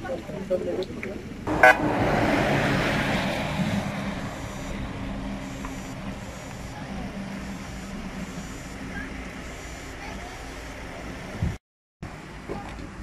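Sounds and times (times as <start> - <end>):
road noise: 0.0 - 13.0
van engine running: 1.2 - 13.0.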